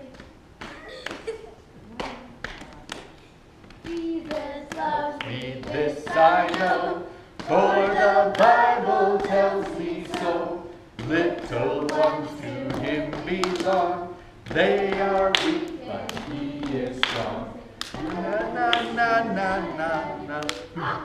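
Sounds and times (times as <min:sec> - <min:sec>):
children and adult singing: 0:03.8 - 0:21.0.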